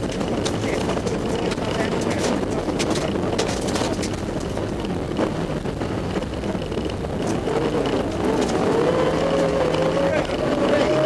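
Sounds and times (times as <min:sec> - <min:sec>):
rally car engine: 0:00.0 - 0:11.0.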